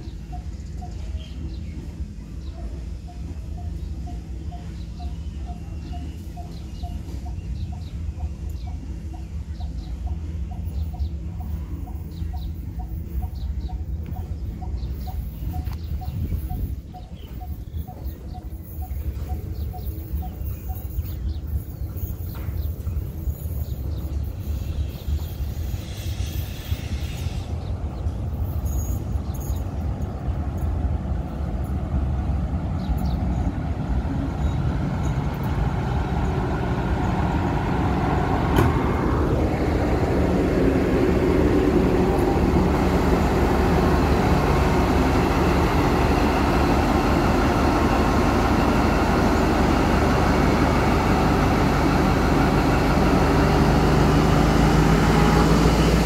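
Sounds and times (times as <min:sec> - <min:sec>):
freight train engine rumble: 0:00.0 - 0:56.0.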